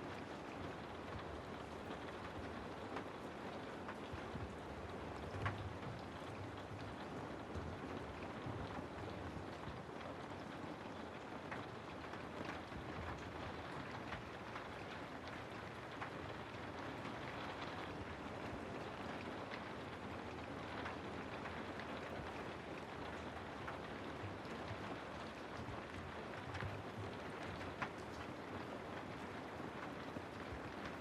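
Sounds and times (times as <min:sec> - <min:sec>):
rain falling through trees: 0:00.0 - 0:31.0.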